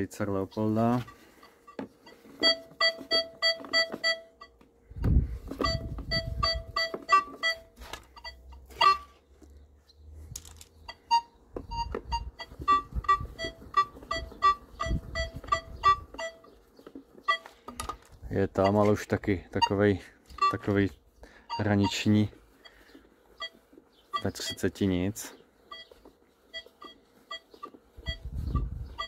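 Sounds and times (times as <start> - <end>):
metal detector beeping: 0.2 - 9.2, 10.8 - 29.0.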